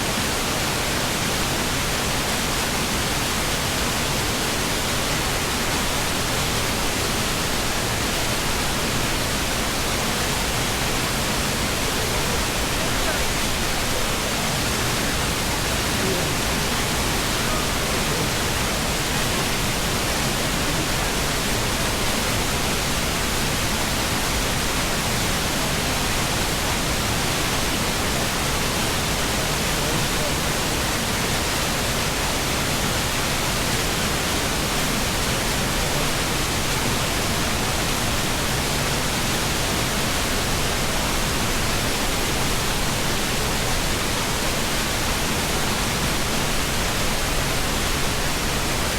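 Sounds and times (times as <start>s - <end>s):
stream rushing over rocks: 0.0s - 48.9s.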